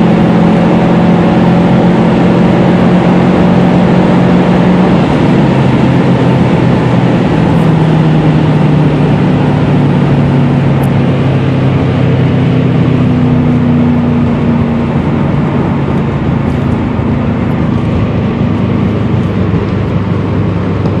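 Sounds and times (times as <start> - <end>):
car engine humming: 0.0 - 21.0
wind and road noise: 0.0 - 21.0.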